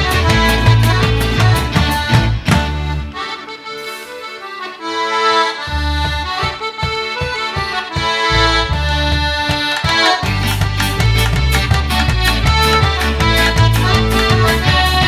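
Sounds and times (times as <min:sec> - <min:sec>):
accordion bass pulse: 0:00.0 - 0:15.0
button accordion playing folk tune: 0:00.0 - 0:15.0.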